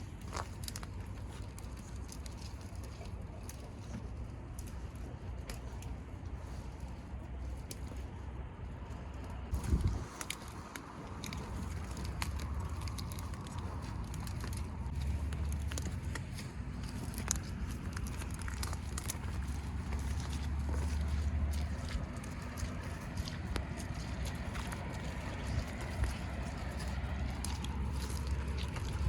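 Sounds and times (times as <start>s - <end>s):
sharp crackles and clicks: 0.0s - 29.0s
wind rumbling on microphone: 0.0s - 29.0s.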